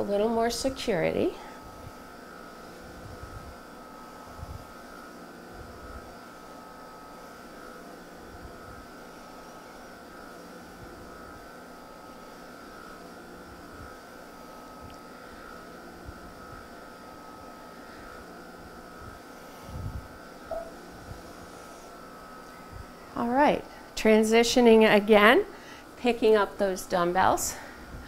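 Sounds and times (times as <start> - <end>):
mid-pitched whine: 0.0 - 28.0
room tone hum and hiss: 0.0 - 28.0.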